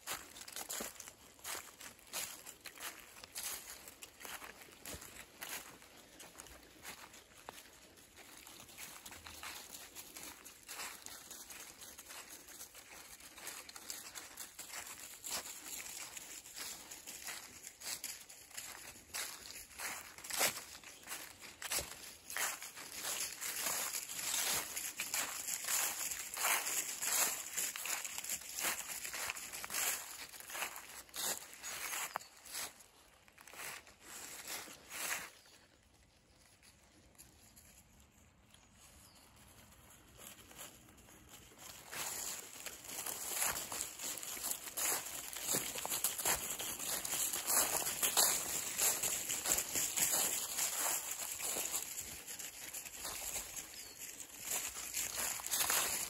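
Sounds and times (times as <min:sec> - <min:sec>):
footsteps crunching dry leaves: 0:00.0 - 0:56.0.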